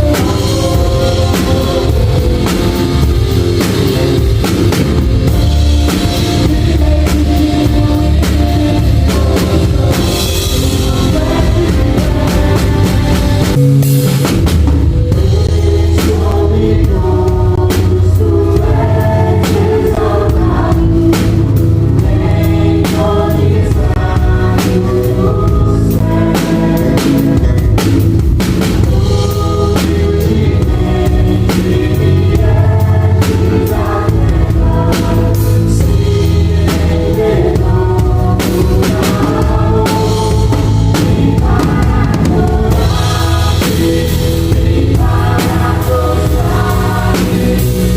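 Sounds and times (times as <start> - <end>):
person singing: 0.0 - 27.8, 28.8 - 47.9
drum kit playing: 0.0 - 47.9.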